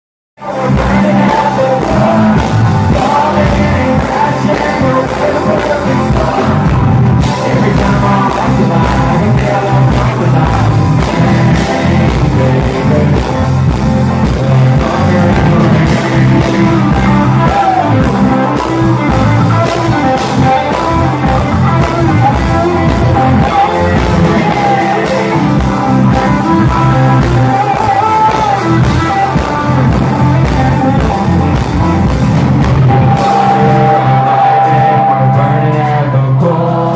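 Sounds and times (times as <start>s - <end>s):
man singing: 0.4s - 32.0s, 32.8s - 36.9s
country band playing: 0.4s - 36.9s.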